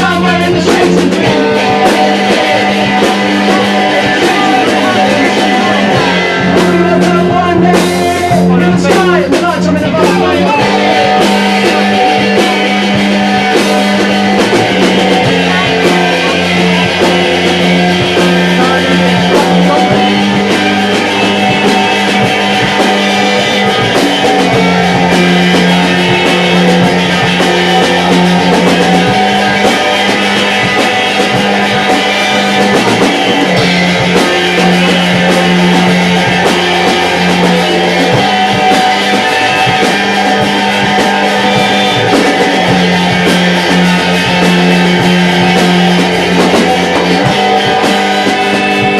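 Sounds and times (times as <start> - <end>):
bass guitar long notes: 0.0 - 48.9
drum kit: 0.0 - 48.9
electric guitar: 0.0 - 48.9.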